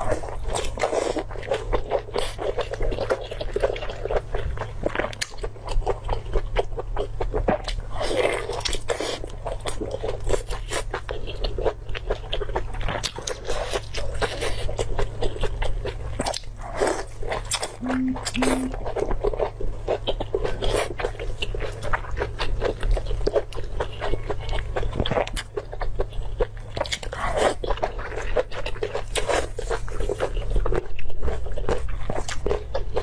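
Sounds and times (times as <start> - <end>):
low steady hum: 0.0 - 33.0
person chewing meat: 0.0 - 33.0.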